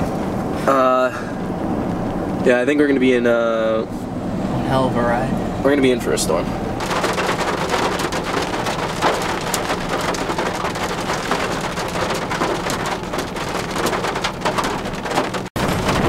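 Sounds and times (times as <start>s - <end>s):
rain on car windows: 0.0s - 3.9s, 5.6s - 16.0s.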